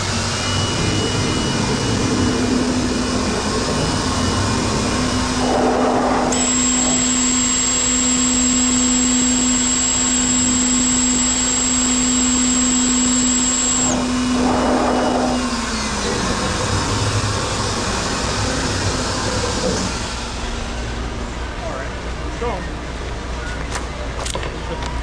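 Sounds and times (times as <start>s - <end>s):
high whine: 0.0s - 25.0s
router spindle hum: 0.0s - 25.0s
rushing machine noise: 0.0s - 25.0s.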